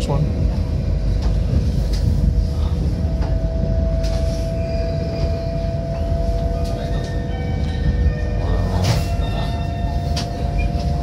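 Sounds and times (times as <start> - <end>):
train low rumble: 0.0 - 11.0
train whine: 0.0 - 11.0.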